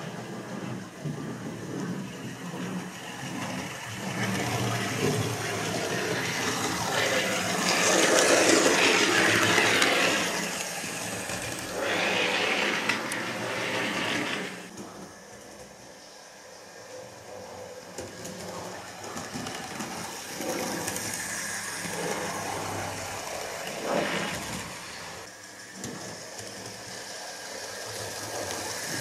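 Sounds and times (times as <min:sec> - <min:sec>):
model train whirring on track: 0:00.0 - 0:29.0.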